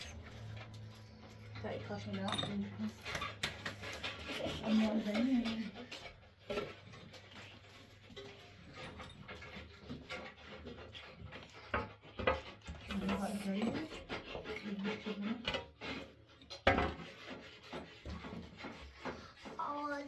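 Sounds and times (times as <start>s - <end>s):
hand tools scraping on wall: 0.0s - 20.0s.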